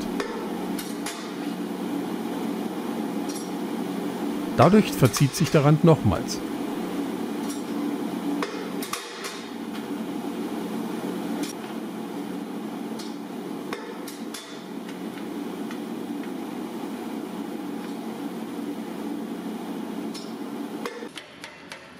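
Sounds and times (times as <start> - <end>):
steady low hum: 0.0 - 21.1.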